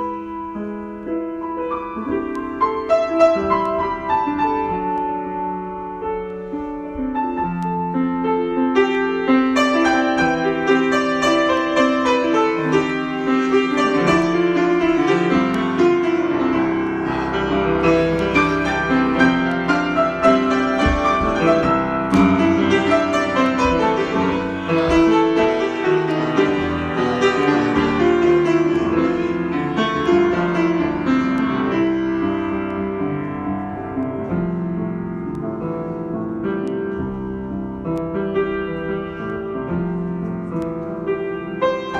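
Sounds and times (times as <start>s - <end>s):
solo piano improvisation: 0.0s - 41.9s.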